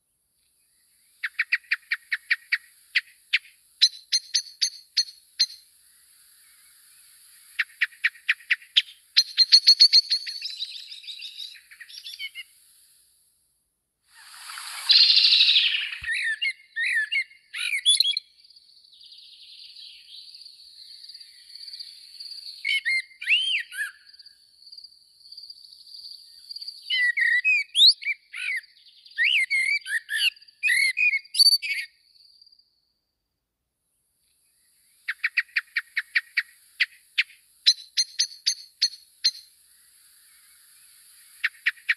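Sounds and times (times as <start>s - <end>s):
small birds chirping: 0.4s - 13.0s, 14.1s - 32.8s, 34.2s - 41.9s.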